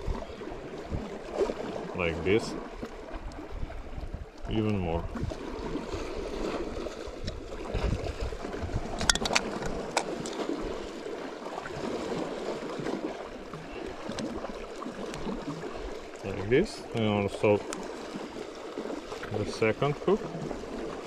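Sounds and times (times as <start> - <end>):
sea waves washing on rocks: 0.0 - 21.0.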